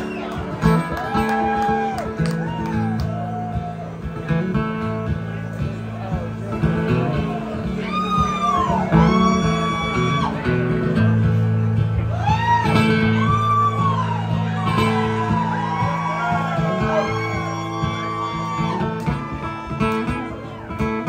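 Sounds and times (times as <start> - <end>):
country band playing: 0.0 - 21.0.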